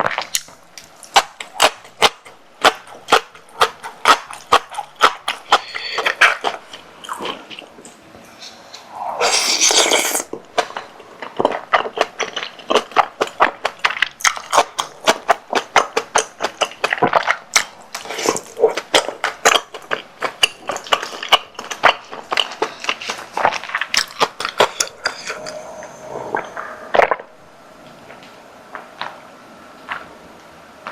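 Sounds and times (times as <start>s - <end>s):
wet chewing and smacking: 0.0s - 25.6s.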